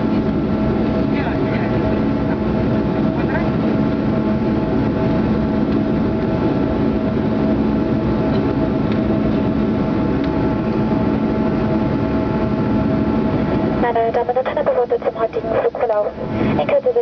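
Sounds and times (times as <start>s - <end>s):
airplane cabin engine noise: 0.0s - 17.0s.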